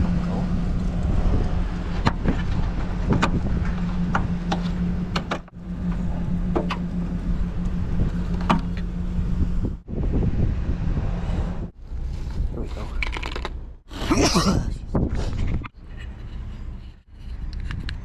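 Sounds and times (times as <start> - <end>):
wind noise on microphone: 0.0 - 13.1, 14.3 - 18.0
low steady hum: 0.0 - 14.5.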